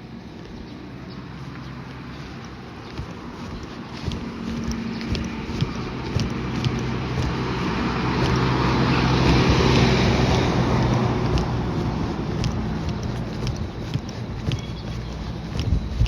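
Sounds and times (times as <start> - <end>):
footsteps: 0.3 - 16.0
vehicle passing by: 0.7 - 16.0.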